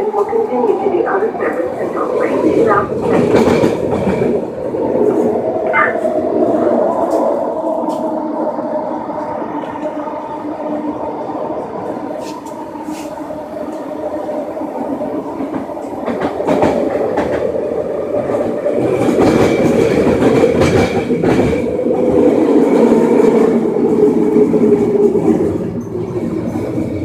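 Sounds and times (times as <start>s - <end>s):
train rumble with wheel clicks: 0.0s - 27.0s.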